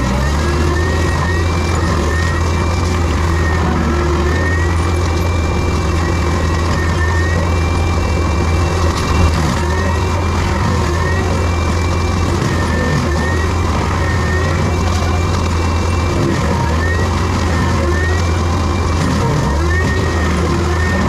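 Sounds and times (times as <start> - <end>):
faint high tones rising and falling: 0.0 - 21.0
heavy diesel machinery running: 0.0 - 21.0.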